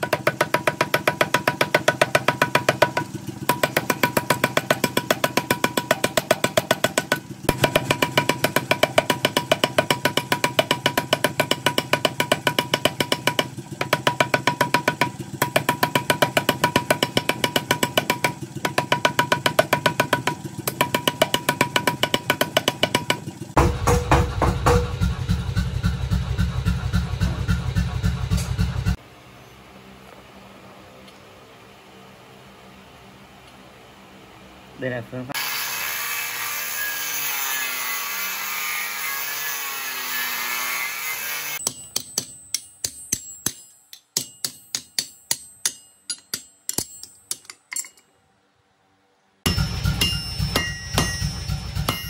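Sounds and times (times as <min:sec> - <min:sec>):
power hammer pounding steel: 0:00.0 - 0:29.0, 0:35.4 - 0:47.6, 0:49.5 - 0:52.0.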